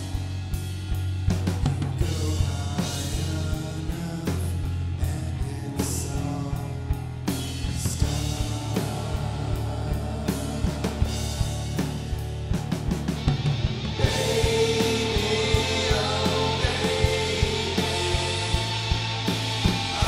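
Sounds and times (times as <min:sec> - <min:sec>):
drums keeping a beat: 0:00.0 - 0:20.0
rock music with guitar: 0:00.0 - 0:20.0
steady bass line: 0:00.0 - 0:20.0.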